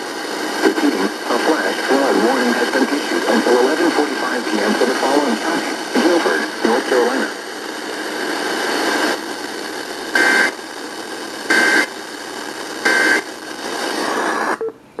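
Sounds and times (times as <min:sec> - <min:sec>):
radio hiss: 0:00.0 - 0:14.7.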